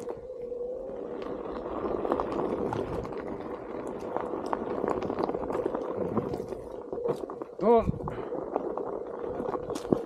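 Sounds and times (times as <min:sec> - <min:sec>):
tyre crackling over dirt and stones: 0:00.0 - 0:10.0.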